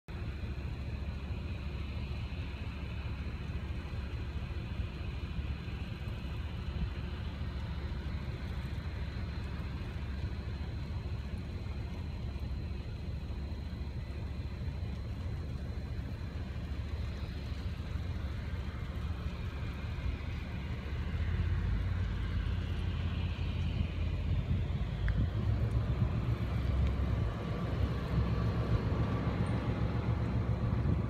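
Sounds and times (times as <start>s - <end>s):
engine running with low rumble: 0.0s - 31.0s.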